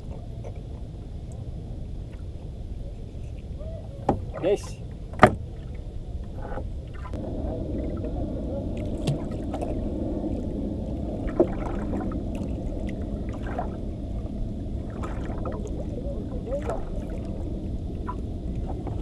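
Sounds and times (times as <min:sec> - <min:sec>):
water sloshing: 0:00.0 - 0:19.0
wind: 0:00.0 - 0:19.0.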